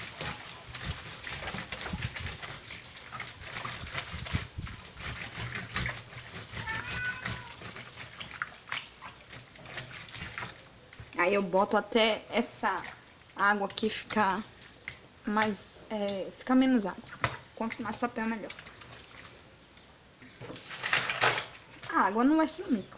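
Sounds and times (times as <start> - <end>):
wet paper squelching: 0.0 - 11.8, 12.4 - 19.7.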